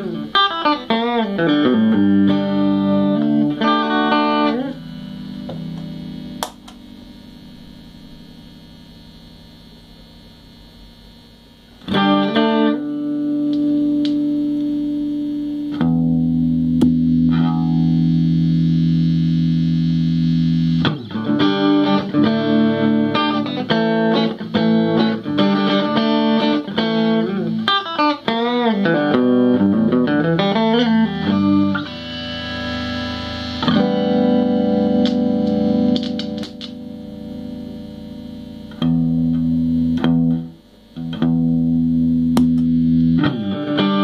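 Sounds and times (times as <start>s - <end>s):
electric guitar chords and notes: 0.0s - 44.0s.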